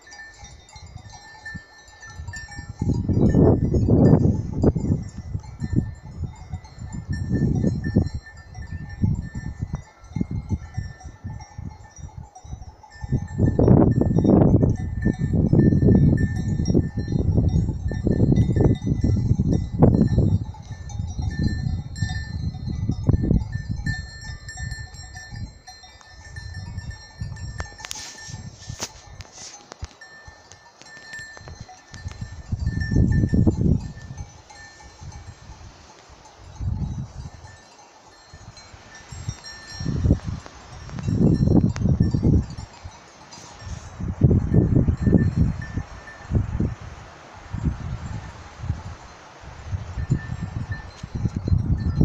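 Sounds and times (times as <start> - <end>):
wind gusting against microphone: 0.0 - 52.0.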